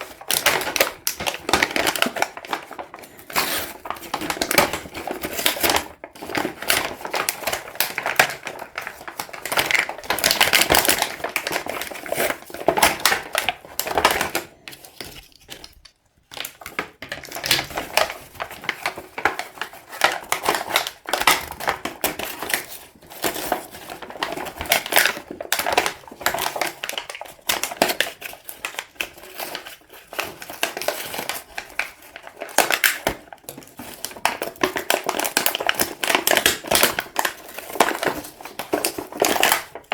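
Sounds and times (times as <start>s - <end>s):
plastic wrapper crinkling: 0.0s - 39.9s.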